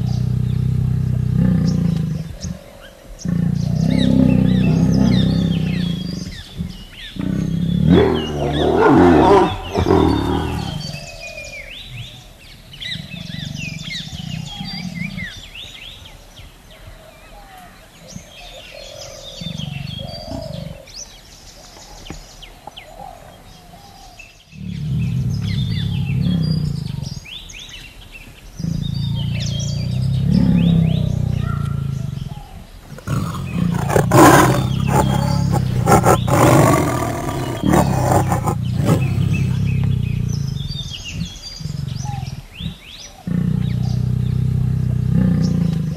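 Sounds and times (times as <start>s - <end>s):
tiger growling and roaring: 0.0s - 16.1s, 18.1s - 21.1s, 24.5s - 45.9s
songbirds chirping: 0.0s - 45.9s.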